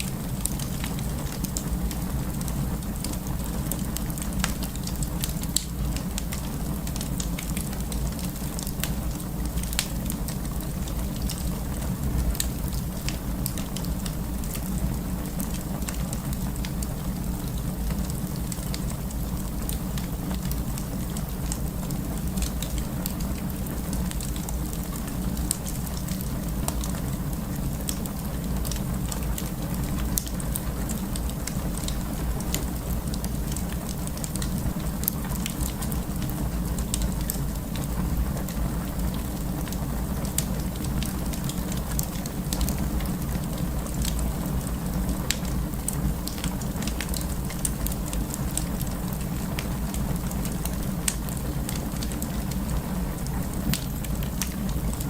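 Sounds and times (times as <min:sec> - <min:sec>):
low rumble of flames: 0:00.0 - 0:55.0
wood crackling and popping: 0:00.0 - 0:55.0.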